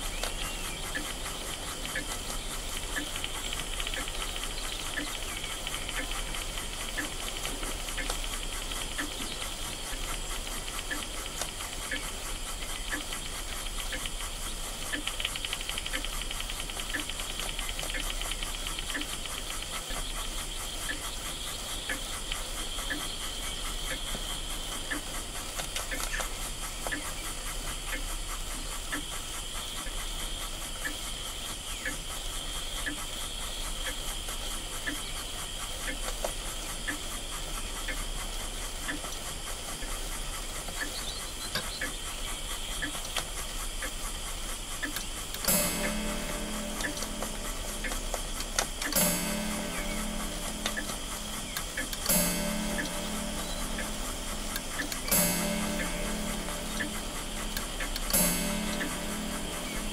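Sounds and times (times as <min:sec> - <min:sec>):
steam boiler hissing: 0:00.0 - 0:59.9
steam engine ticking beat: 0:00.0 - 0:59.9.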